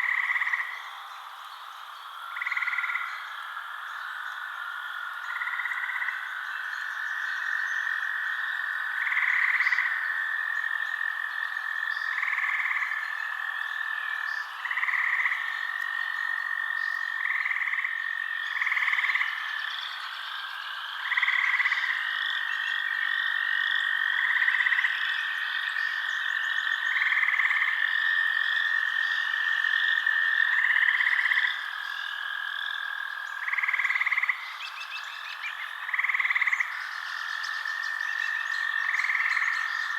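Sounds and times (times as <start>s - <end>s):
frogs trilling: 0.0s - 39.9s
short frog calls: 0.0s - 39.9s.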